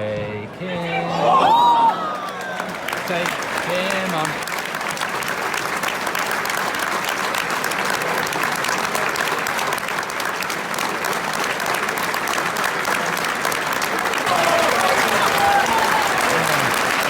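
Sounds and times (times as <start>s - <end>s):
crowd applause: 0.5s - 17.0s.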